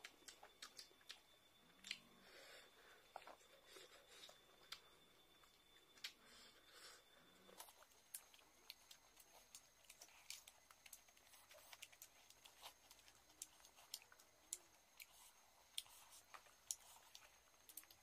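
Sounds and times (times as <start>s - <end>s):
person chewing with wet clicks: 0.0s - 6.3s, 7.4s - 18.0s.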